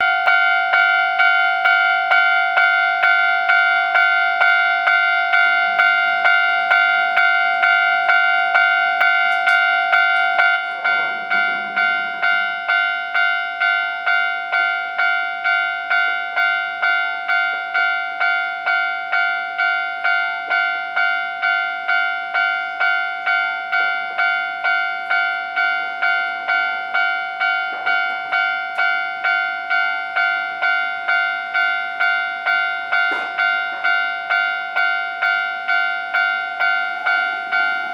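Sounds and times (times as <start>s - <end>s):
level crossing bell dinging: 0.0s - 37.9s.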